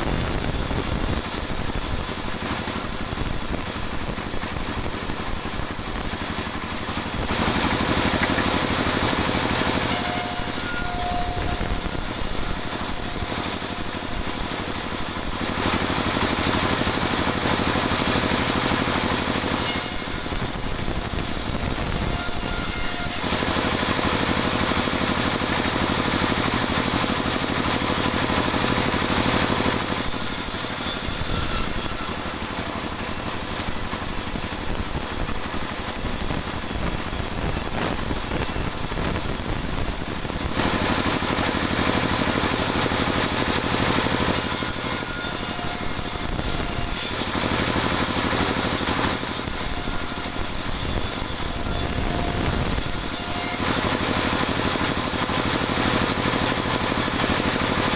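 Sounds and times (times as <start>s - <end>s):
band saw cutting wood: 0.0s - 57.9s.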